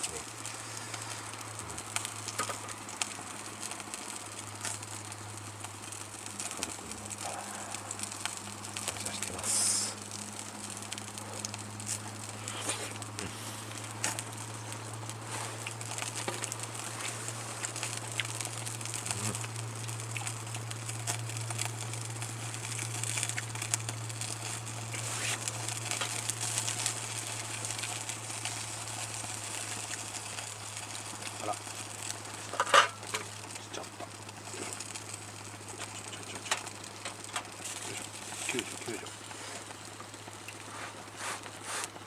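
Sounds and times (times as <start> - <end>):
food crackling over campfire: 0.0 - 42.0
steady low hum: 0.0 - 42.0.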